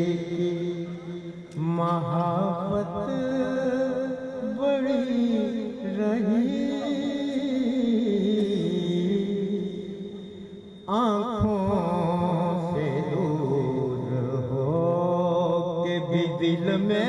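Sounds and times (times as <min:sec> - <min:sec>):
man singing verse: 0:00.0 - 0:17.0.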